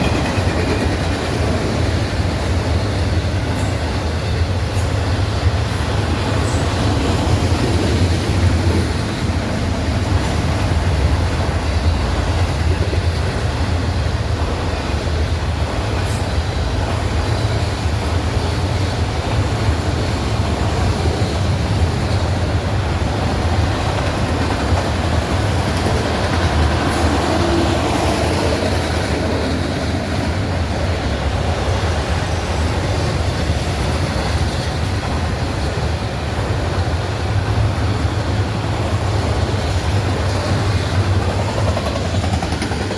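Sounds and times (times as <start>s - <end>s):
freight train wheels rumbling: 0.0s - 42.9s.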